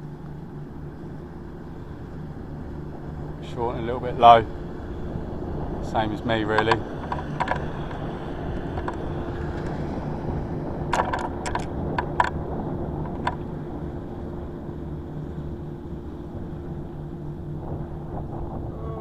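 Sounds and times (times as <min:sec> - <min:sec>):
distant machinery hum: 0:00.0 - 0:19.0
wind noise: 0:02.5 - 0:15.2, 0:16.2 - 0:19.0.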